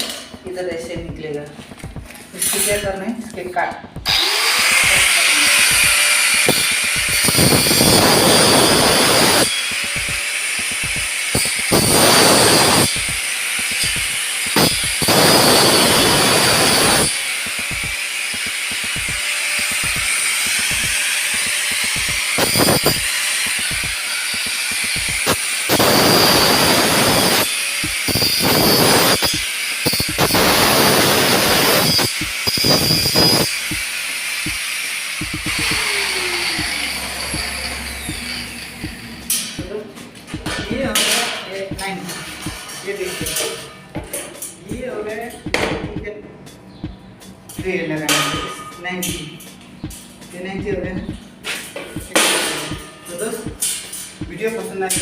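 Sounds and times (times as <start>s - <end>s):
power tool cutting metal: 3.9s - 44.8s, 50.6s - 55.0s.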